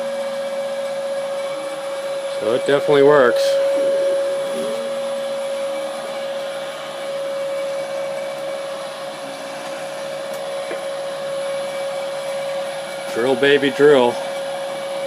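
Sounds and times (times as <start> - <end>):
drill press motor whine: 0.0 - 15.0.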